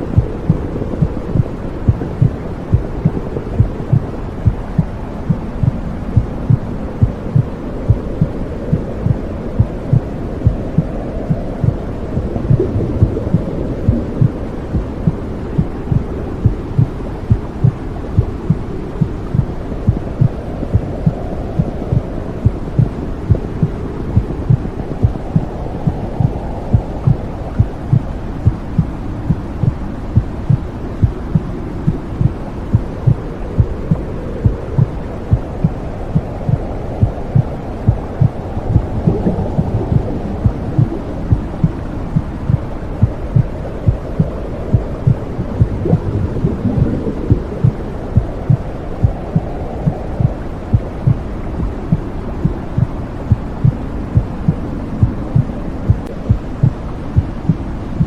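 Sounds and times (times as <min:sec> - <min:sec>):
heartbeat pulsing: 0:00.0 - 0:58.0
low whooshing noise: 0:00.0 - 0:58.0.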